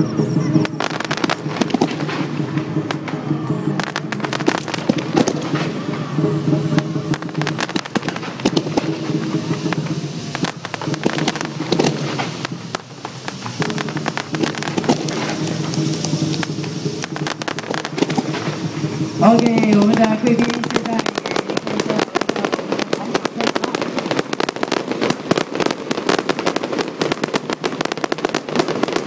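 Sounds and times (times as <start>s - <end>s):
fireworks popping and banging: 0.0s - 29.0s.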